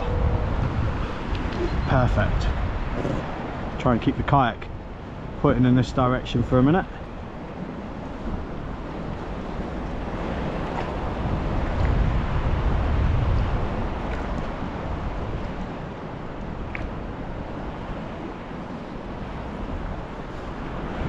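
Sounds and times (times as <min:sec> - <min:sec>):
sea water washing: 0:00.0 - 0:21.0
wind rumbling on microphone: 0:00.0 - 0:21.0.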